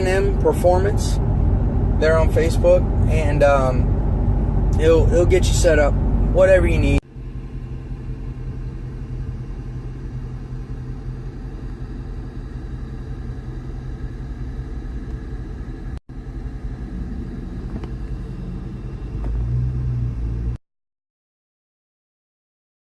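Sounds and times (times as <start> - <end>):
car engine rumbling: 0.0 - 20.6.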